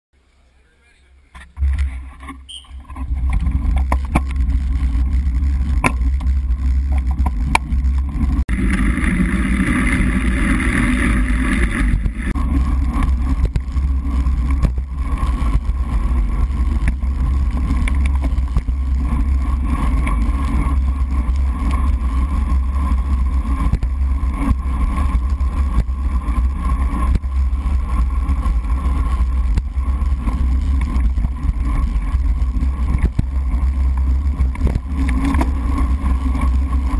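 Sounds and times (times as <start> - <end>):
wind and road rumble: 1.3 - 36.9.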